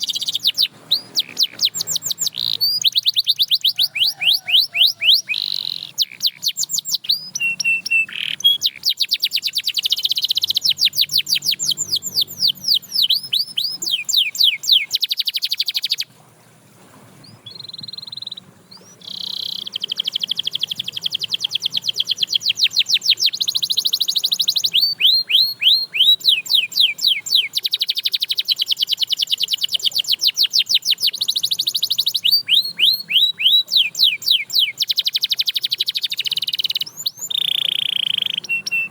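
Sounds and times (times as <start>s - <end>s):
canary singing: 0.0s - 16.1s, 17.2s - 38.9s.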